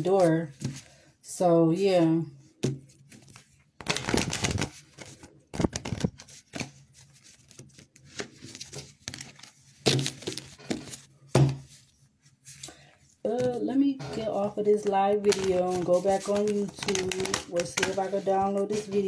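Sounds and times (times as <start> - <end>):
cards rustling and shuffling: 2.6 - 19.0.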